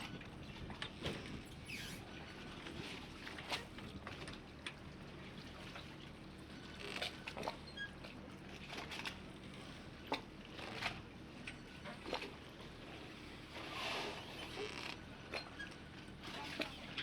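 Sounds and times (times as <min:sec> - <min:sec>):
water lapping against boats: 0:00.0 - 0:17.0.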